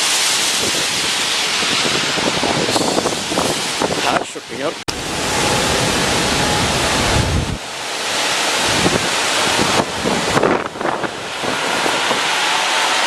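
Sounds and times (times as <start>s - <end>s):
driving rain: 0.0s - 13.0s
gusting wind: 0.0s - 13.0s
wind buffeting microphone: 0.5s - 13.0s.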